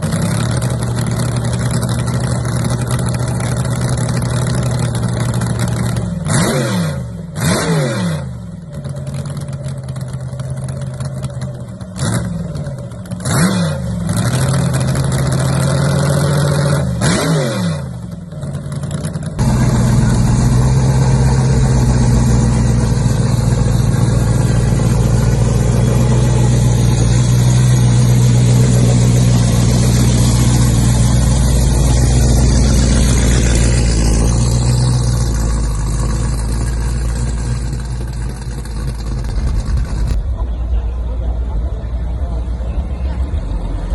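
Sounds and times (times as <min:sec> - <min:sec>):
car engine revving: 0:00.0 - 0:43.9
steady engine running: 0:00.0 - 0:43.9.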